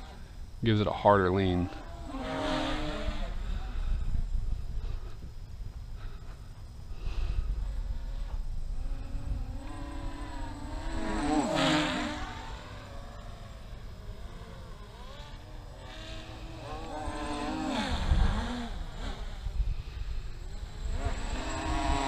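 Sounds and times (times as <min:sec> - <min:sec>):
drone flying past: 0:01.1 - 0:05.2, 0:05.9 - 0:22.0.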